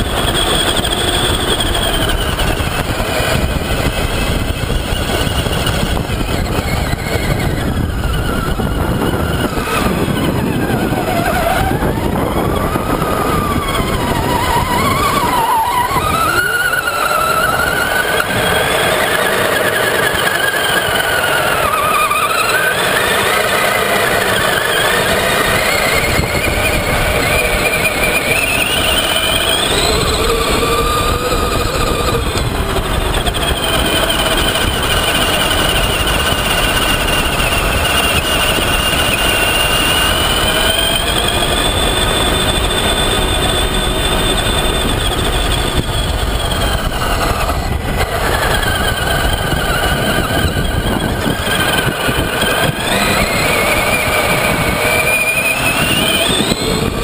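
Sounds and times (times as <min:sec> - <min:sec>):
electric motor whining: 0:00.0 - 0:57.0
steady rushing noise: 0:00.0 - 0:57.0.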